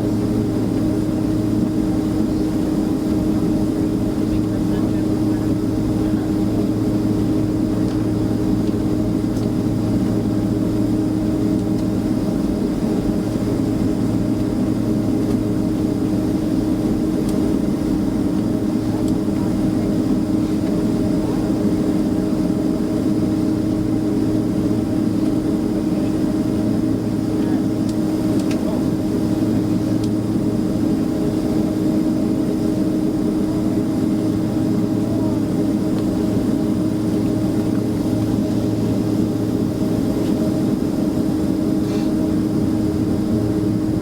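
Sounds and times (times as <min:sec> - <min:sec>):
jet engine and air-conditioning hum: 0:00.0 - 0:44.0.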